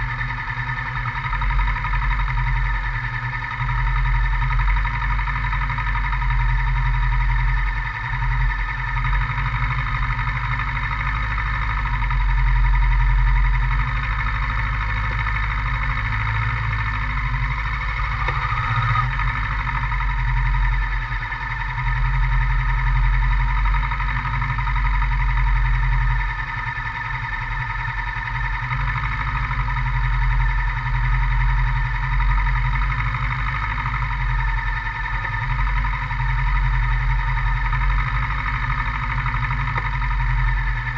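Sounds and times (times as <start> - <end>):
motorcycle engine running: 0.0 - 40.9
steady whine: 0.0 - 40.9.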